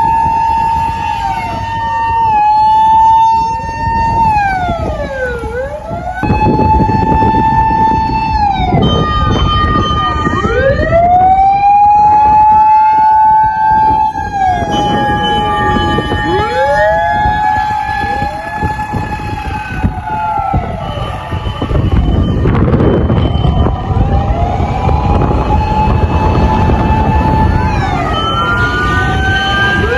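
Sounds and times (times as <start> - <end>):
low rumble of wind and engines: 0.0 - 29.9
mechanical sirens wailing: 0.0 - 29.9.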